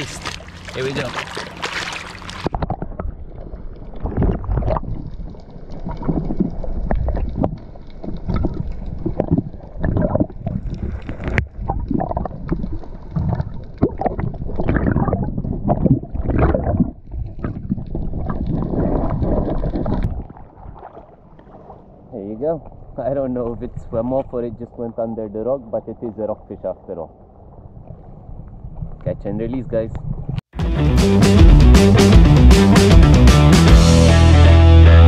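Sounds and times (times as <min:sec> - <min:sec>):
muffled underwater sloshing: 0:00.0 - 0:30.5.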